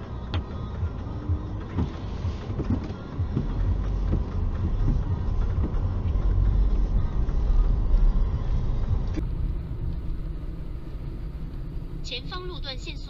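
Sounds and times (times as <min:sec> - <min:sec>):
car rumbling over snow: 0:00.0 - 0:13.0.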